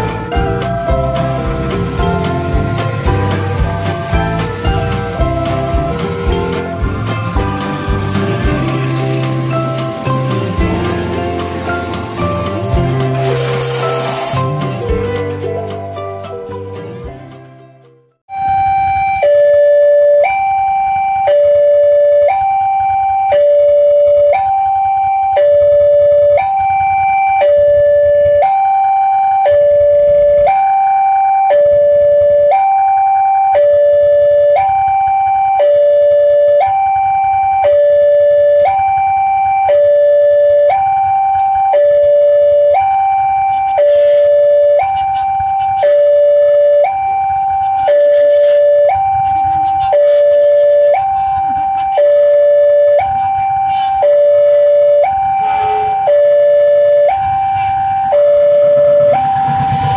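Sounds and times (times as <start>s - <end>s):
two-tone crossing alarm chime: 0.0s - 16.7s, 18.3s - 59.9s.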